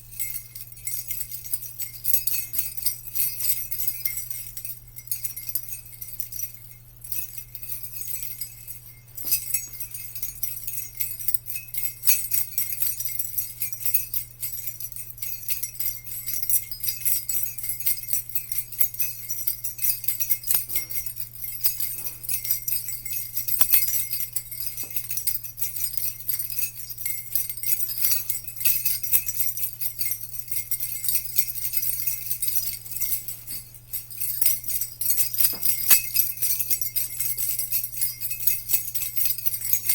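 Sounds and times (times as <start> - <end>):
jingle bells shaking: 0.0 - 39.9.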